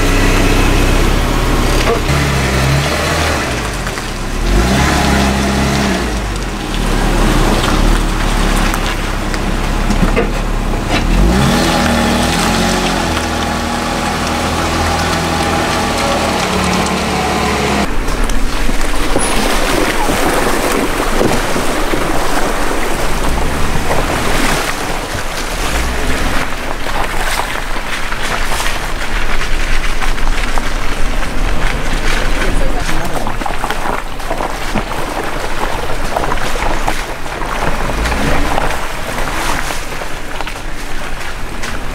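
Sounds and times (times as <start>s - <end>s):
car engine under load: 0.0s - 41.9s
tyres crackling on gravel: 0.0s - 41.9s
wind and tyre rumble: 0.0s - 41.9s.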